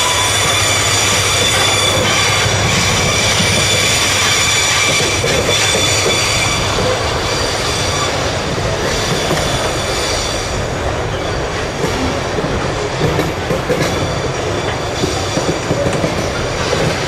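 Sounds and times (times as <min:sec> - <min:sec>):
high wheel squeal: 0:00.0 - 0:12.0, 0:13.8 - 0:17.0
train cars rumbling: 0:00.0 - 0:17.0
wheels clacking over rail joints: 0:00.0 - 0:17.0.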